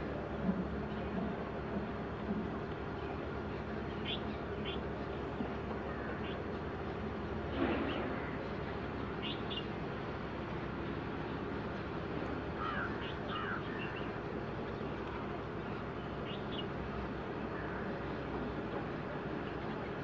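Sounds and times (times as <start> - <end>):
distant outboard engine hum: 0.0 - 20.0.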